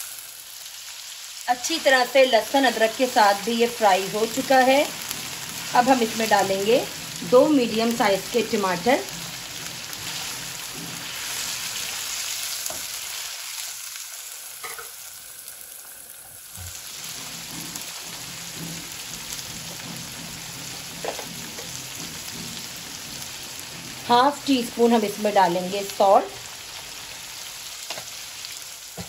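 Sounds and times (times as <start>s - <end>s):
meat sizzling in hot oil: 0.0s - 29.0s.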